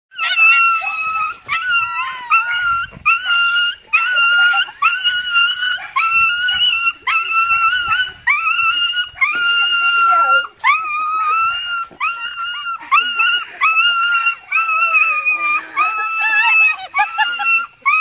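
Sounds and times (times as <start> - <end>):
dog whining and crying: 0.2 - 18.0.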